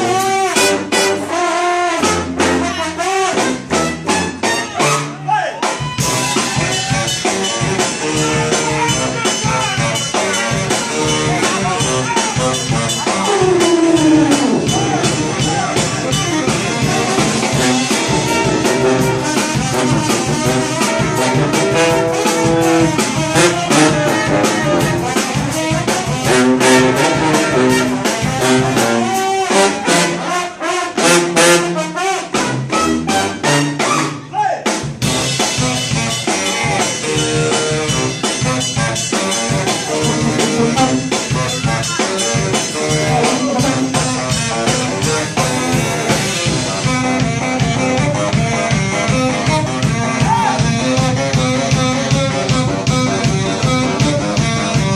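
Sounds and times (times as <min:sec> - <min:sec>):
brass band playing: 0:00.0 - 0:54.9
drum hits: 0:05.7 - 0:30.1, 0:34.7 - 0:54.9.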